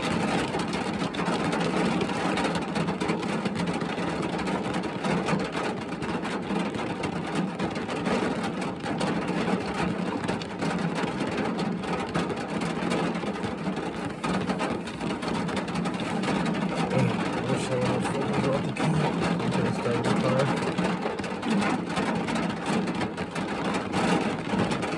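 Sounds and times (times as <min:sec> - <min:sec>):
rain on car roof: 0:00.0 - 0:24.9.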